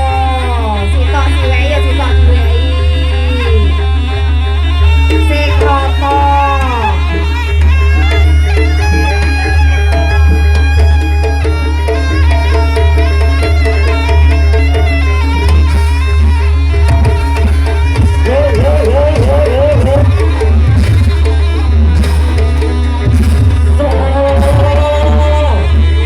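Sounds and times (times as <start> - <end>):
drums and metal percussion: 0.0 - 26.0
reedy wind instrument melody: 0.0 - 26.0.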